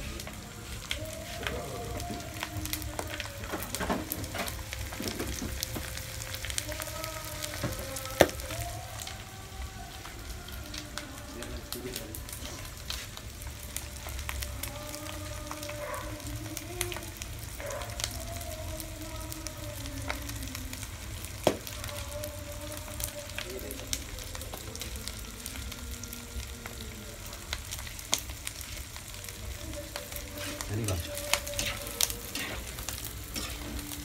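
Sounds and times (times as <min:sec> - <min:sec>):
deep-frying sizzle with pops: 0:00.0 - 0:34.0.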